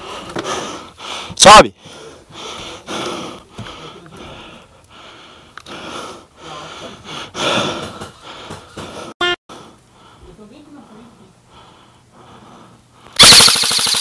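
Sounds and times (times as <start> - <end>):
person breathing hard: 0.0 - 10.3, 11.4 - 13.2.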